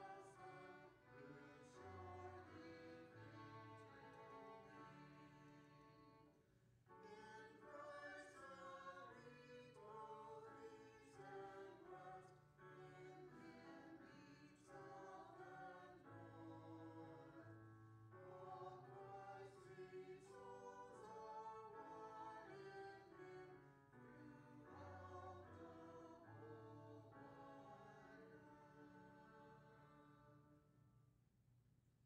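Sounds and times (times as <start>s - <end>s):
group singing a hymn: 0.0s - 3.8s, 7.1s - 17.4s, 18.2s - 30.1s.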